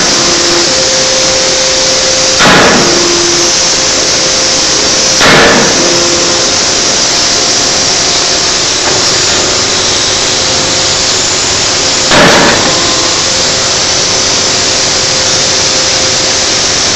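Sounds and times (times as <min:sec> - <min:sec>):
forging hammer striking metal: 0:00.0 - 0:01.6, 0:02.2 - 0:15.8
loud machinery hiss: 0:00.0 - 0:16.9.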